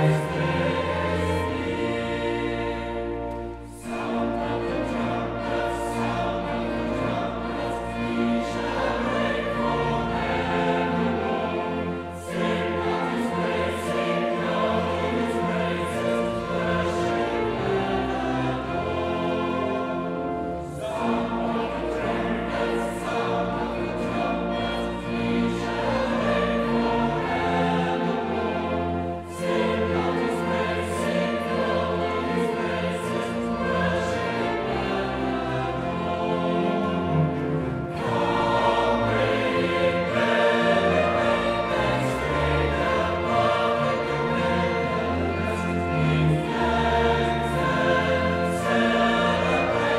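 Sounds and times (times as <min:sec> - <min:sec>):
mixed choir singing: 0:00.0 - 0:49.9
strings accompaniment: 0:00.0 - 0:49.9.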